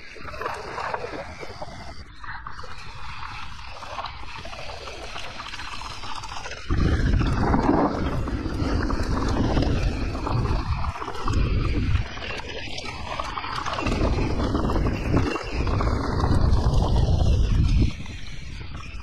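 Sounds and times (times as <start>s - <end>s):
mountain bike riding noise: 0.0s - 19.0s
wind rumbling on microphone: 0.0s - 19.0s.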